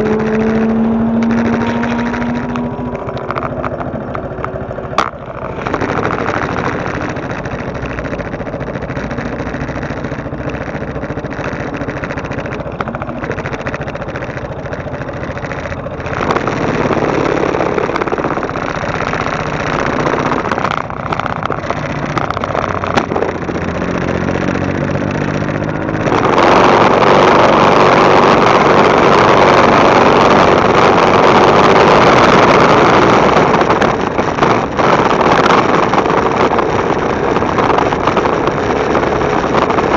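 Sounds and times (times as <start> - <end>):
motorcycle engine running: 0.0 - 39.9
steady rush: 0.0 - 39.9.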